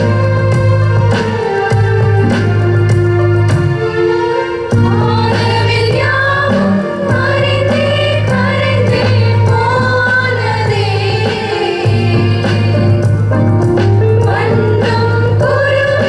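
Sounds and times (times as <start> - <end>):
group of voices singing: 0.0 - 16.0
instrumental accompaniment: 0.0 - 16.0.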